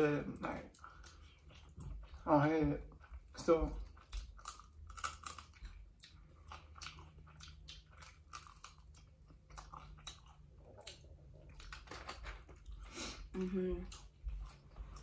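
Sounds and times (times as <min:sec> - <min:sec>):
people chewing chicken wings: 0:00.0 - 0:15.0.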